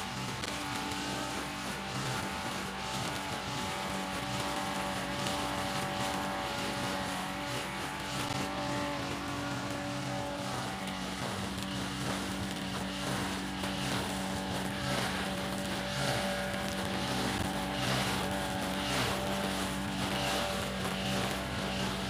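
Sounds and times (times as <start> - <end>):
brush cutter engine cutting grass: 0.0 - 22.0.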